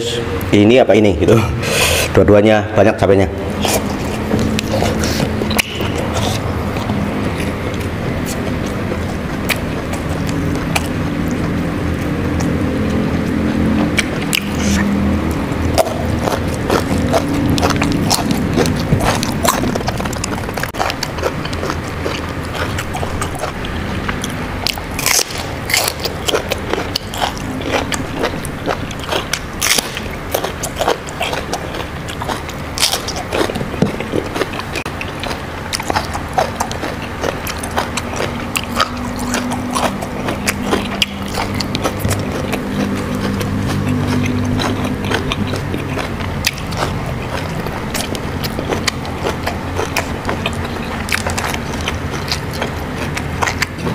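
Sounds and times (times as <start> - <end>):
low steady hum: 0.0 - 53.9
person crunching raw vegetables: 3.3 - 53.9.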